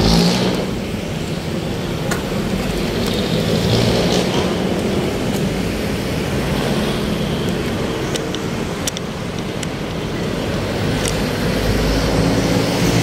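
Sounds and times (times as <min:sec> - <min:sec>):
passing cars: 0:00.0 - 0:13.0.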